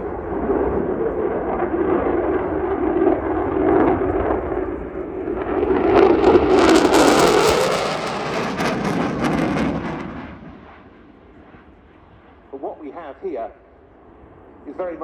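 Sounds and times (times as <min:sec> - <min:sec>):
fighter jet engines roaring: 0:00.0 - 0:15.0.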